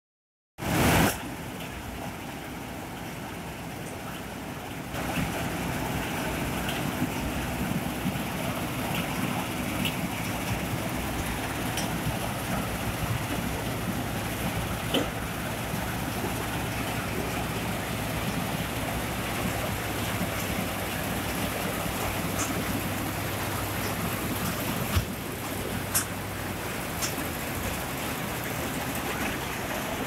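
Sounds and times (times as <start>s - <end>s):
combine harvester running: 0.6s - 30.0s.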